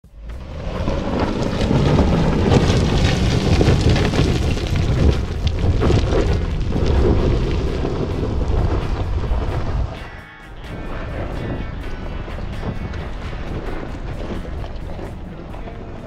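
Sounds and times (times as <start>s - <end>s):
off-road vehicle rumbling: 0.0s - 16.0s
wind buffeting microphone: 0.3s - 16.0s.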